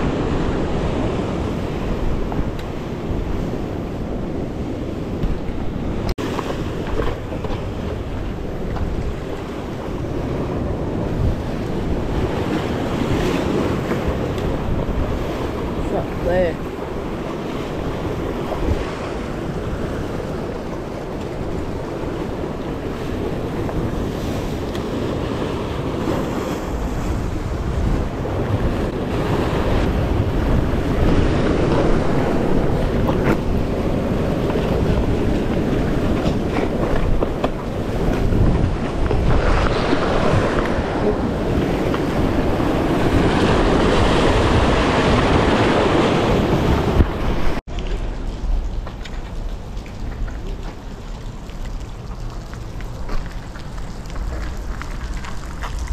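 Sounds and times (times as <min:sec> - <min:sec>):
sea waves breaking on rocks: 0:00.0 - 0:55.9
wind buffeting microphone: 0:00.0 - 0:55.9.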